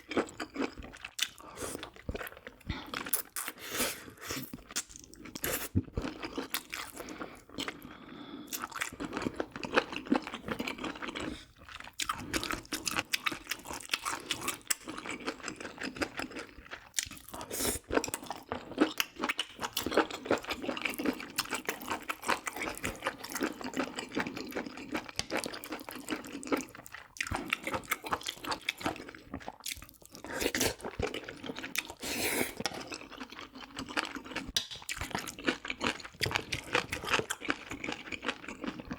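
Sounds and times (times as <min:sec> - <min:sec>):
wet chewing and crunching: 0:00.0 - 0:38.9.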